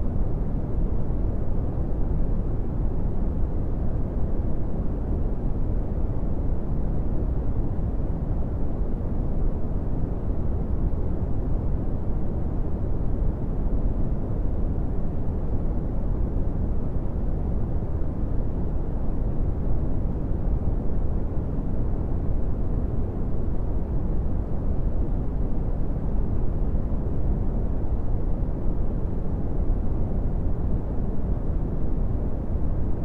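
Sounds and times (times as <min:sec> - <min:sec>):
brown noise rumbling hiss: 0:00.0 - 0:33.0.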